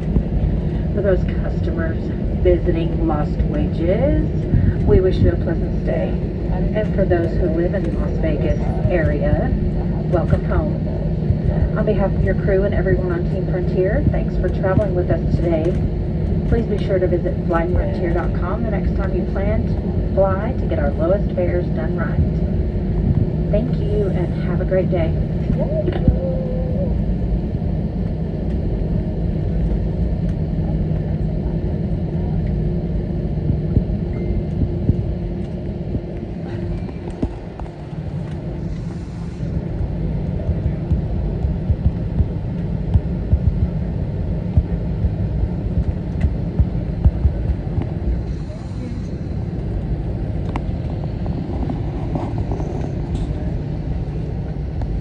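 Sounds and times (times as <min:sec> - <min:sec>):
airliner cabin rumble: 0:00.0 - 0:55.0
steady hum: 0:00.0 - 0:55.0.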